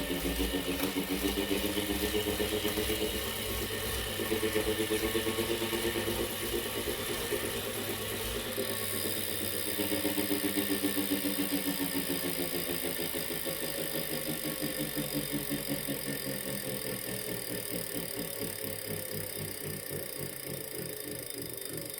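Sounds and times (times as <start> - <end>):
bike trainer pulsing whir: 0.0 - 21.9.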